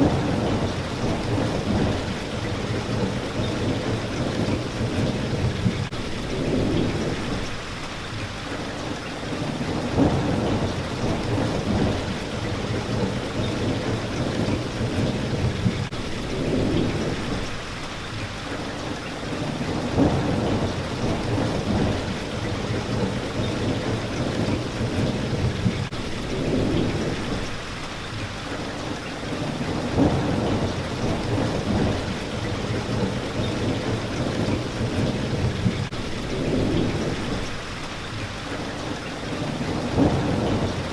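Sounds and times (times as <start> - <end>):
low thunder rumbling: 0.0 - 7.7, 9.3 - 17.6, 19.3 - 27.8, 29.3 - 37.8, 39.3 - 40.9
rain hitting a window: 0.0 - 40.9.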